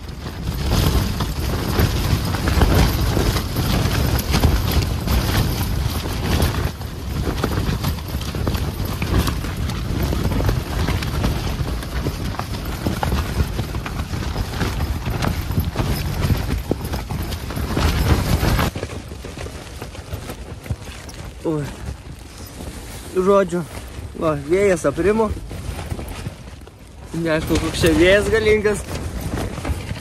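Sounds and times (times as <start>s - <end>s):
tent fabric flapping: 0.0s - 30.0s
wind rumble on microphone: 0.0s - 30.0s.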